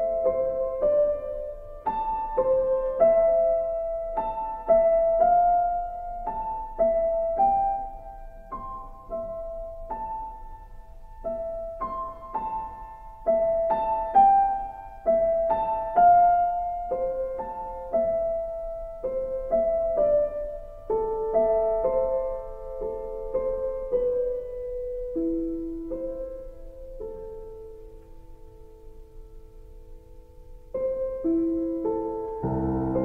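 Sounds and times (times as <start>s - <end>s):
slow solo piano notes: 0.0s - 33.0s.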